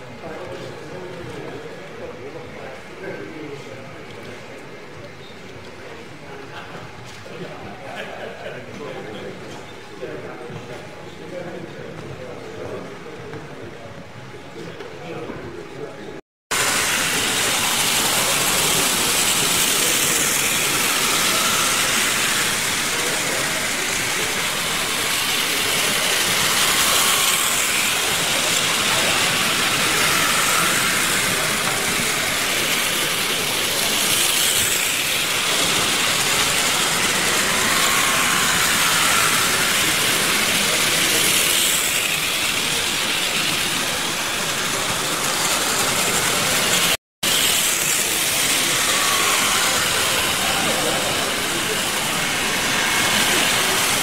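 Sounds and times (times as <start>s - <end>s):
model trains whirring and rattling: 0.0s - 54.0s.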